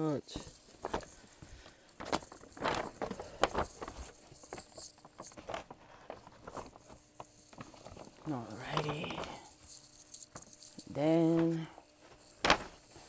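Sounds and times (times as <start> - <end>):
paper bag rustling and crinkling: 0.3 - 13.0.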